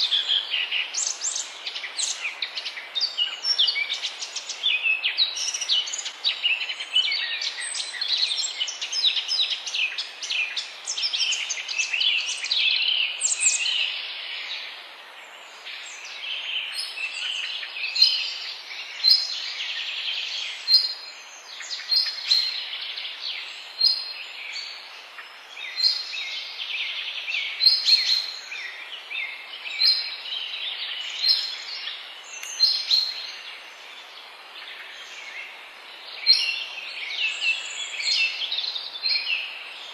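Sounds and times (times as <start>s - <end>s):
background hiss: 0.0s - 39.9s
birds singing in chorus: 0.0s - 39.9s.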